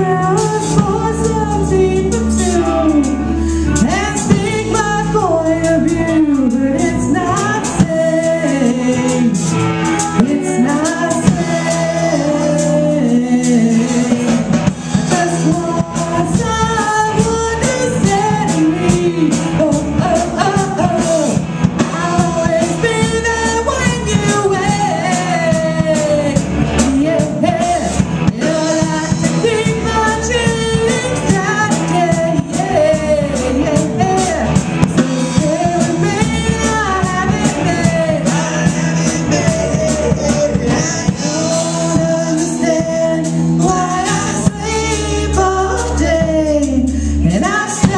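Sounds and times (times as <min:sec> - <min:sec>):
person singing lead vocal: 0:00.0 - 0:47.9
rock band playing: 0:00.0 - 0:47.9.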